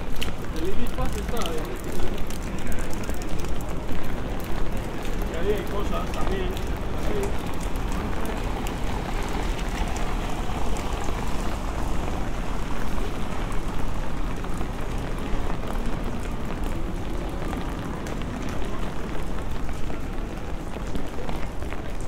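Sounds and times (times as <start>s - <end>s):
rain on stone pavement: 0.0s - 22.0s.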